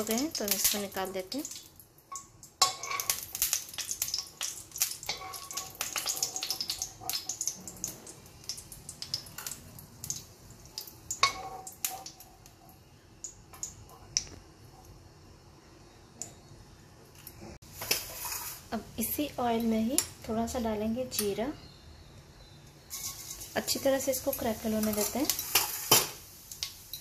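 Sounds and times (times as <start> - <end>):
hot oil crackling and popping: 0.0 - 15.4, 17.1 - 27.0.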